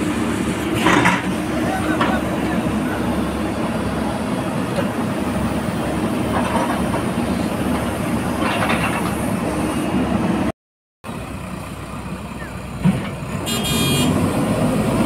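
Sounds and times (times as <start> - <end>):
diesel engine running: 0.0 - 15.0
heavy truck engine: 0.0 - 15.0.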